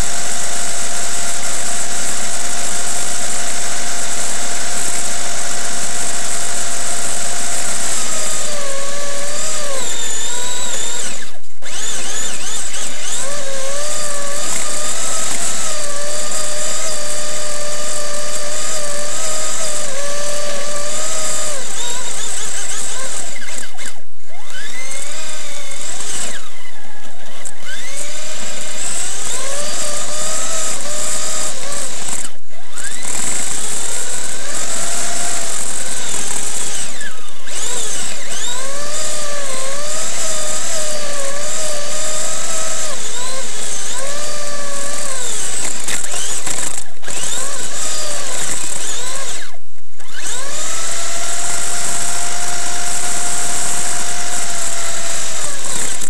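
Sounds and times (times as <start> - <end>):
electric motor and gears whining: 0.0 - 56.0.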